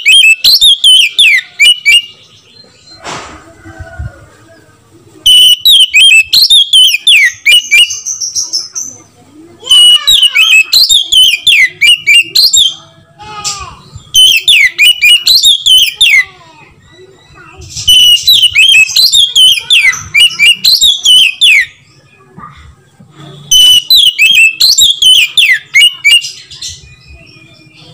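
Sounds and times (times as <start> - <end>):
magpie-robin singing: 0.0 - 3.0, 5.2 - 22.3, 23.4 - 27.9.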